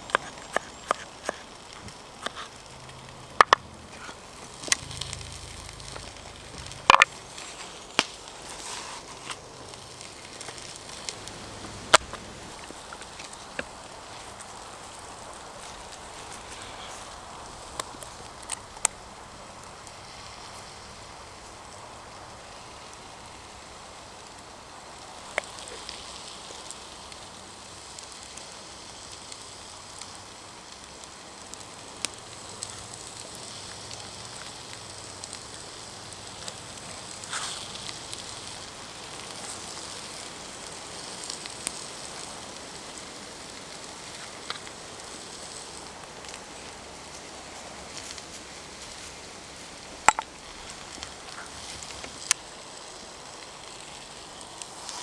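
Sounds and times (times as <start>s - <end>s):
campfire crackling: 0.0s - 55.0s
fire popping: 0.0s - 55.0s.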